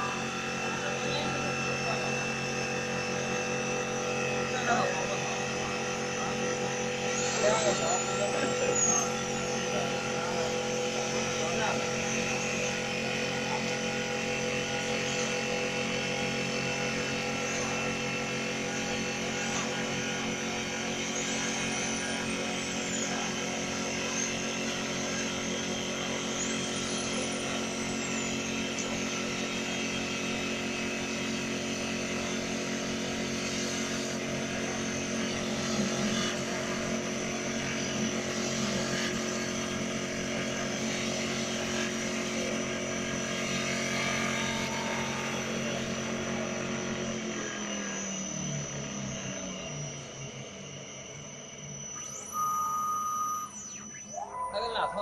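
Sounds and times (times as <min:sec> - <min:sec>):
tool cutting spinning wood: 0:00.0 - 0:47.8
wood lathe motor whine: 0:00.0 - 0:55.0.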